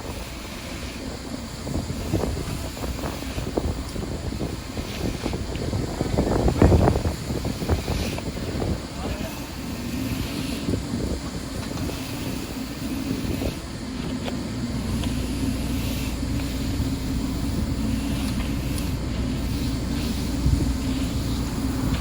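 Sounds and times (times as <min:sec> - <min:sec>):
vehicle engine running: 0:00.0 - 0:22.0
wind noise on microphone: 0:00.0 - 0:22.0.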